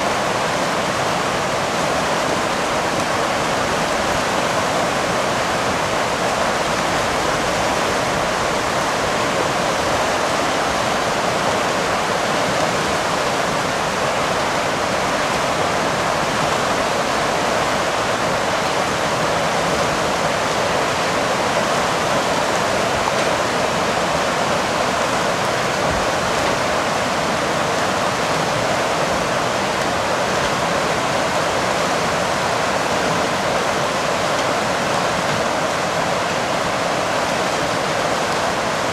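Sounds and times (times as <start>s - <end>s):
whitewater rushing: 0.0s - 38.9s.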